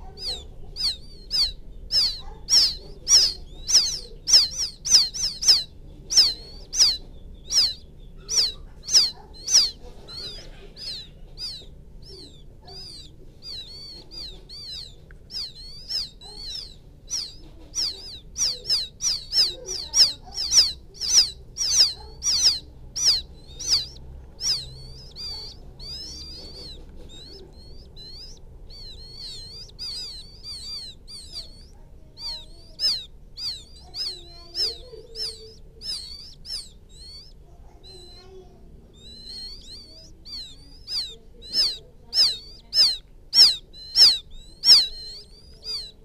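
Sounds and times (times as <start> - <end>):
quail chicks peeping: 0.0 - 46.0.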